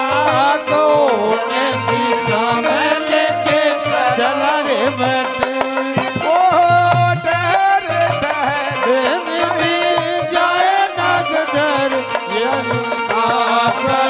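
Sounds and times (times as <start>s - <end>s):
hand drums beating: 0.0s - 14.0s
ornamented melody over drone: 0.0s - 14.0s.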